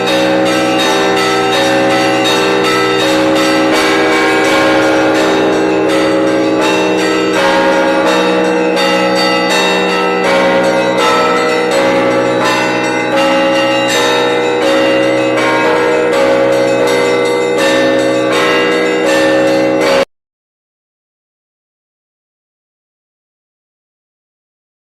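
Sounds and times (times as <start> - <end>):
large bell humming: 0.0 - 20.1
small church bells chiming: 0.0 - 20.1.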